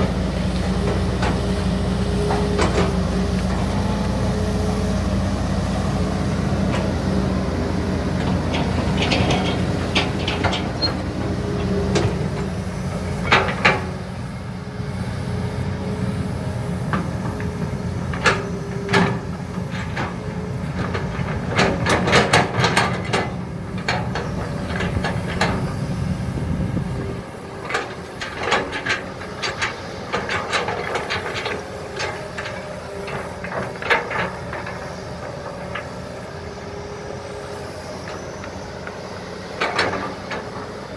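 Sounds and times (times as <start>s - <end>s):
excavator buckets clanking: 0.0s - 5.0s, 5.7s - 14.1s, 16.9s - 40.9s
excavator engines droning: 0.0s - 40.9s.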